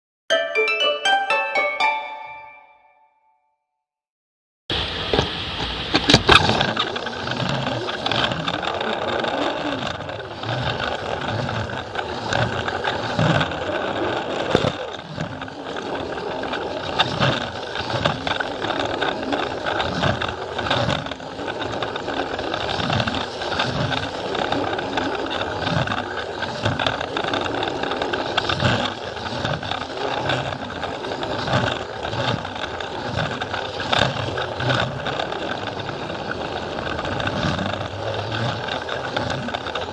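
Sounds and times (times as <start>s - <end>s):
wheels clicking over track joints: 7.2s - 39.9s.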